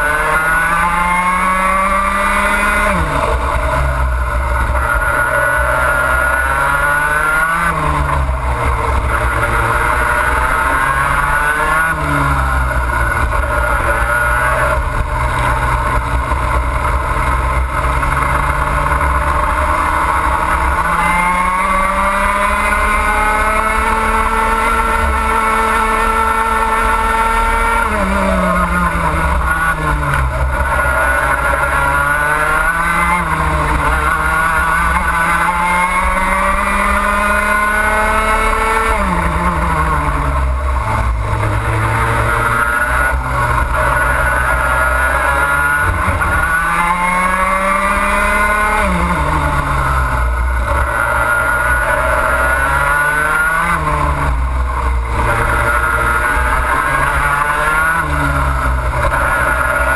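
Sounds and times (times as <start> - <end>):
two-stroke kart engine racing: 0.0 - 59.9.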